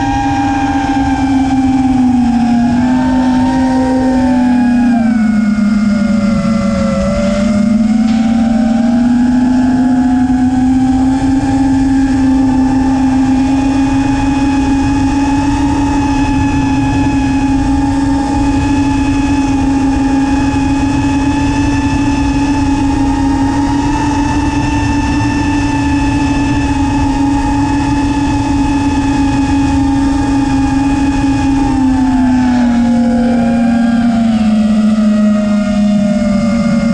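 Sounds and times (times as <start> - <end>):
drone motors whining: 0.0 - 36.9
wind rumble on microphone: 0.0 - 36.9.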